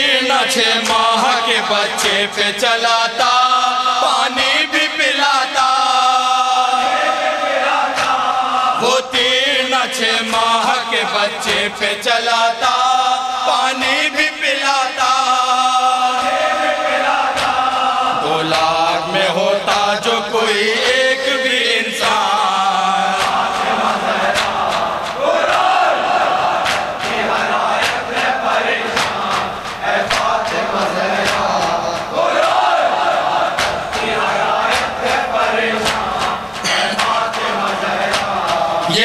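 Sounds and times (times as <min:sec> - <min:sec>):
men chanting a lament: 0:00.0 - 0:39.0.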